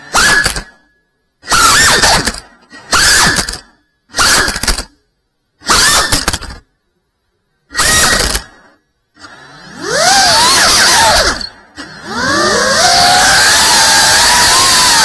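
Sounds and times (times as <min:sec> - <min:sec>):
drone motors whining: 0:00.0 - 0:04.9, 0:07.7 - 0:15.0.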